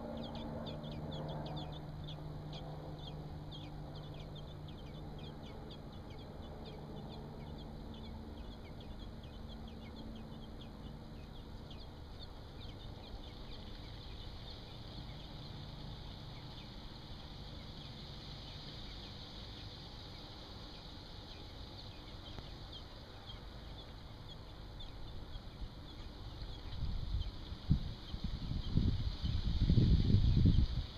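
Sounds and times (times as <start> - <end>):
nestlings cheeping: 0.0 - 28.8
faint low hum: 0.0 - 30.9.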